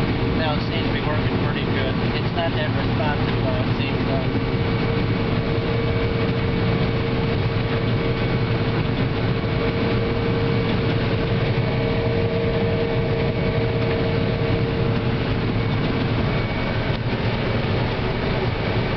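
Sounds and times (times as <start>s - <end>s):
combine harvester machinery drone: 0.0s - 18.9s
steady machine whine: 0.0s - 18.9s.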